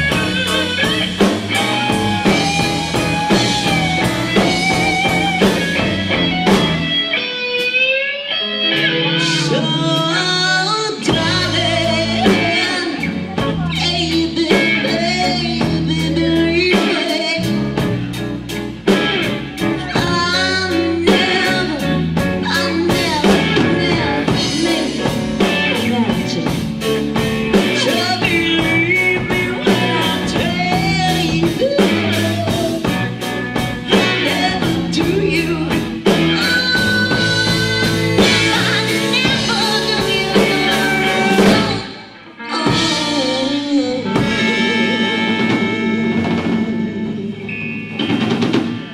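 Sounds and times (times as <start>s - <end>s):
drums keeping a steady beat: 0.0s - 8.0s, 8.7s - 48.9s
blues-rock band playing: 0.0s - 48.9s
electric guitar bending notes: 0.0s - 48.9s.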